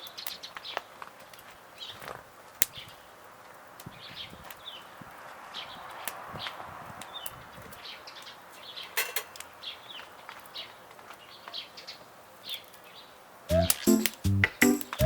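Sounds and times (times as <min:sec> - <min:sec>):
small birds chirping: 0:00.0 - 0:03.2, 0:03.8 - 0:15.0.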